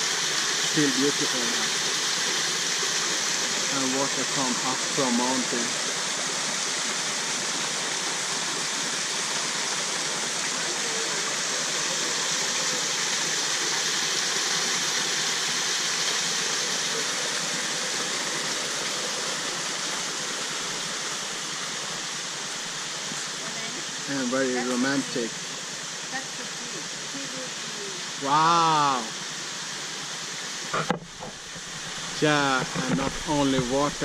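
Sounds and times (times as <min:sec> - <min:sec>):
small waterfall rushing into pool: 0:00.0 - 0:34.0.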